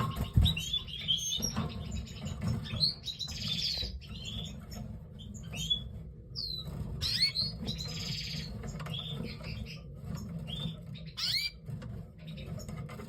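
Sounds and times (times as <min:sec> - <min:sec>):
buzzy bird trills: 0:00.0 - 0:12.7
canaries chirping: 0:00.0 - 0:13.0.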